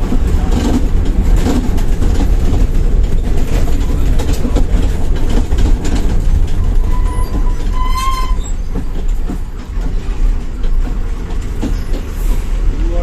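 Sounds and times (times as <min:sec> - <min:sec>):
bus engine and road rumble: 0:00.0 - 0:13.0
rattling and knocking of bus body: 0:00.0 - 0:13.0.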